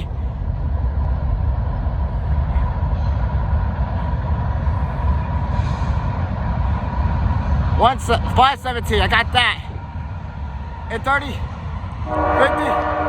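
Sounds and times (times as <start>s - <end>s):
freight train low rumble: 0.0s - 13.0s.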